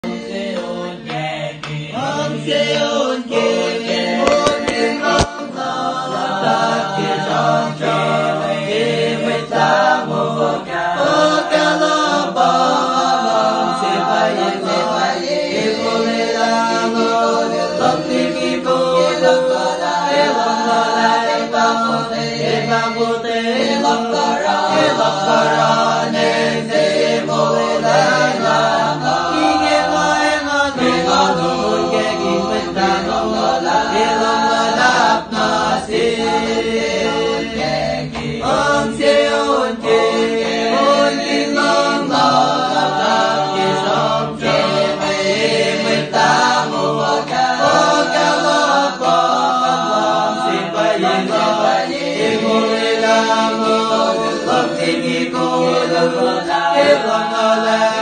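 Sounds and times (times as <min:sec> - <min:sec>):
male choir singing unaccompanied: 0:00.0 - 0:58.0.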